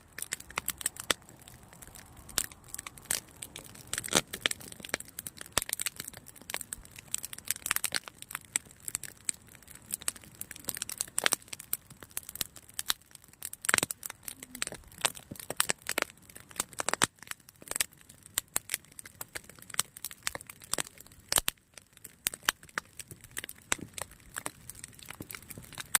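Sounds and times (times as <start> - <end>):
burning wood cracks: 0.0 - 26.0
campfire crackling: 0.0 - 26.0.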